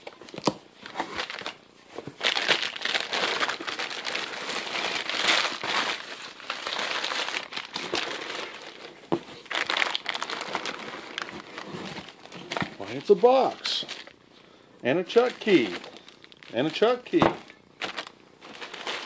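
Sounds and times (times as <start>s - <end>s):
packing paper crinkling: 0.0s - 14.2s, 15.1s - 19.0s.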